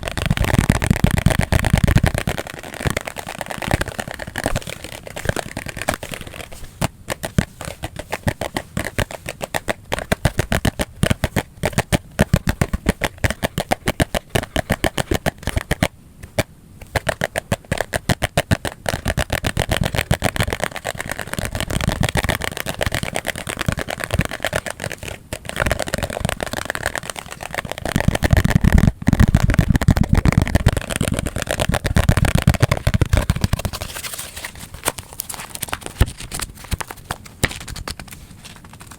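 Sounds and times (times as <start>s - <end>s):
fast tapping: 0.0s - 38.9s.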